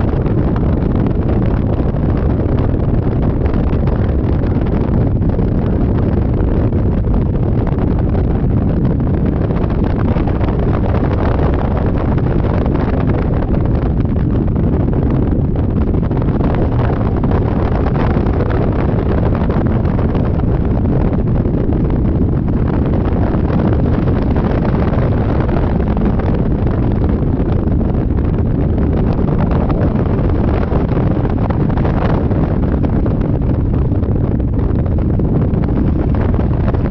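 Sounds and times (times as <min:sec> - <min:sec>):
wind buffeting microphone: 0:00.0 - 0:36.9.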